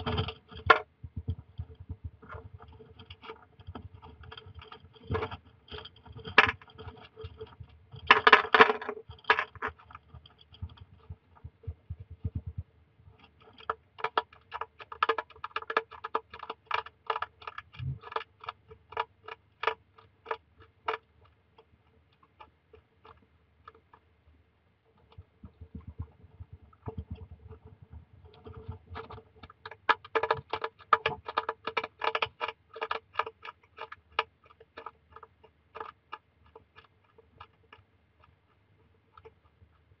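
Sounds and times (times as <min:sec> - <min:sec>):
hedgehog crunching dry food: 0:00.0 - 0:24.1, 0:24.9 - 0:40.0.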